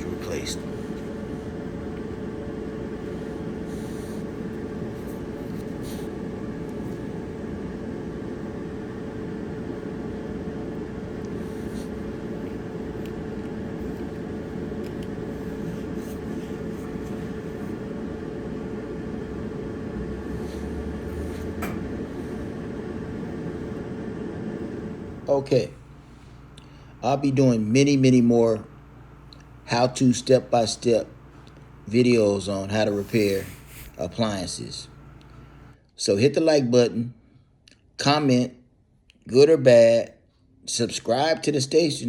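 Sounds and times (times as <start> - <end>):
gas dryer running: 0.0 - 35.8.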